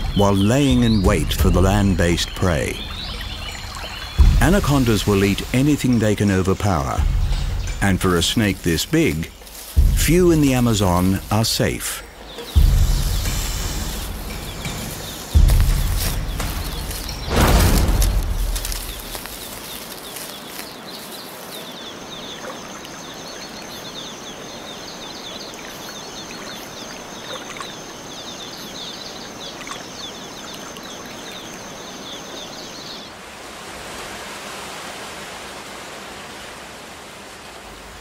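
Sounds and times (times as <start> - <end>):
steady forest hiss: 0.0 - 38.0.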